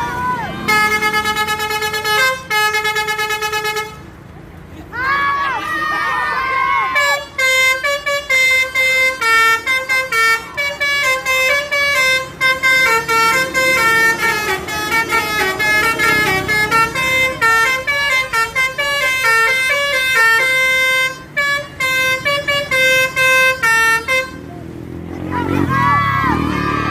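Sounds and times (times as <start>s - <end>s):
musical bus horn tooting tune: 0.0s - 4.3s, 6.8s - 24.6s.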